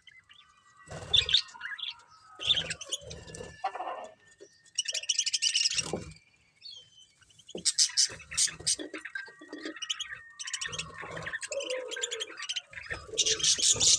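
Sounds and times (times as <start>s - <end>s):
budgerigars chirping: 0.9s - 4.0s, 4.7s - 6.1s, 6.7s - 13.9s.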